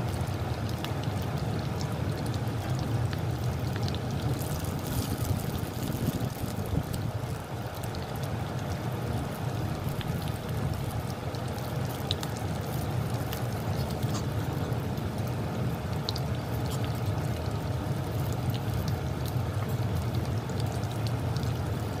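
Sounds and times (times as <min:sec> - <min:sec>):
pork frying in oil: 0:00.0 - 0:22.0.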